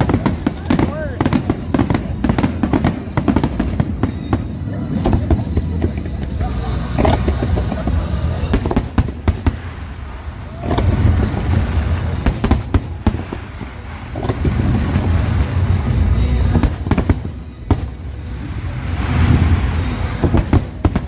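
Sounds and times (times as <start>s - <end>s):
fireworks bangs and cracks: 0.0s - 21.0s.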